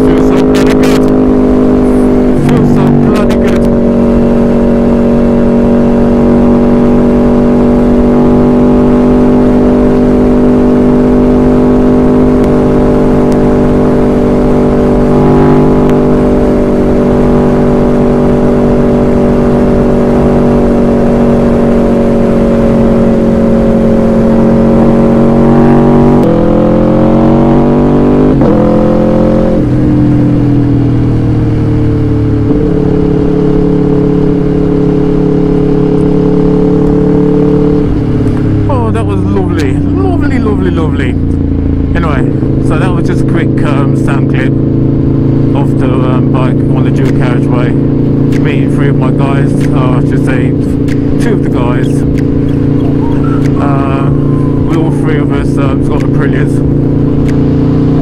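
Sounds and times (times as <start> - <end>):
gear change: 0.0 - 58.0
motorcycle engine revving: 0.0 - 58.0.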